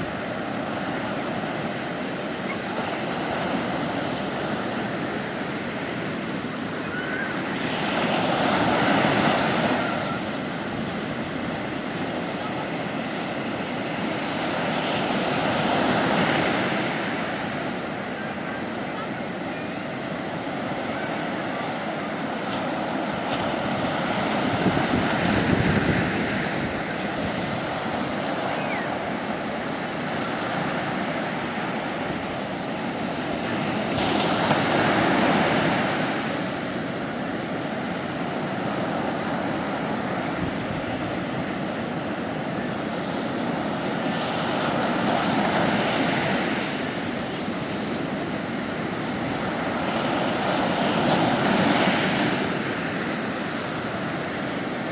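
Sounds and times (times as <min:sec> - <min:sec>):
sea waves breaking on beach: 0:00.0 - 0:54.9.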